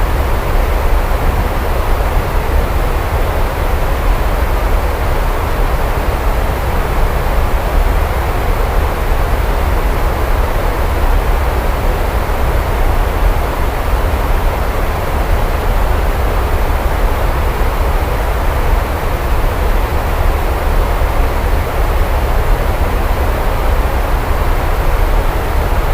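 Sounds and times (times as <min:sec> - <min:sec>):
heavy rainfall: 0:00.0 - 0:25.9.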